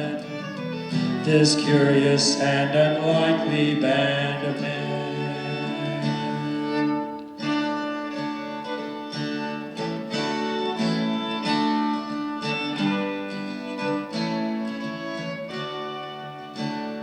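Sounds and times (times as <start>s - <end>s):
acoustic guitar accompaniment: 0.0s - 17.0s
fiddle melody: 0.0s - 17.0s.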